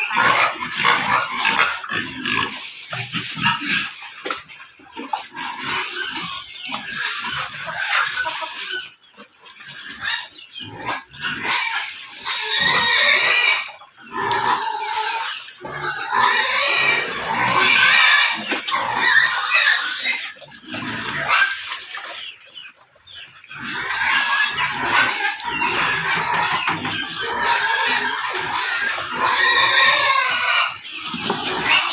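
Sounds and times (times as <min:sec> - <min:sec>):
pigs squealing: 0:00.0 - 0:31.9.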